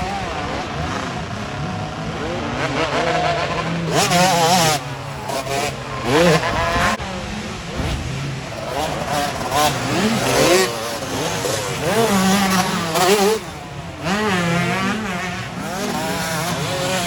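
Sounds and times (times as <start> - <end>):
motocross motorcycles revving: 0.0 - 17.0
motorcycle passing: 0.0 - 17.0.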